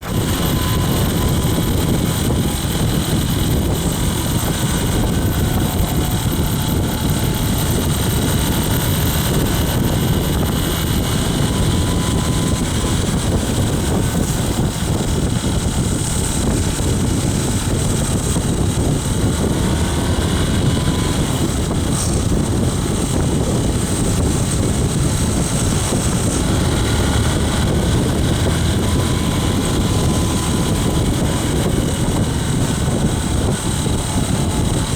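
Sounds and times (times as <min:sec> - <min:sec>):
hay baler and tractor running: 0:00.0 - 0:34.9.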